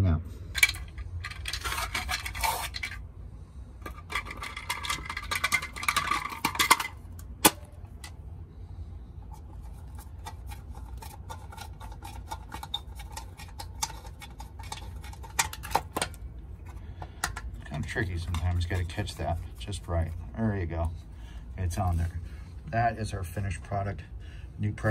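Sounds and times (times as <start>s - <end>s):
low steady rumble: 0.0s - 24.9s.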